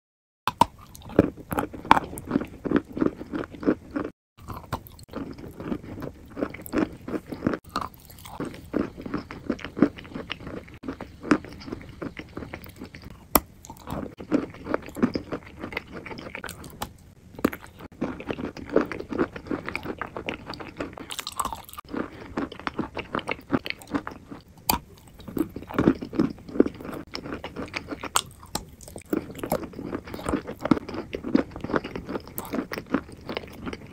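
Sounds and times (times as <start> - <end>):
clay chunks crunched by chewing: 0.5 - 33.9.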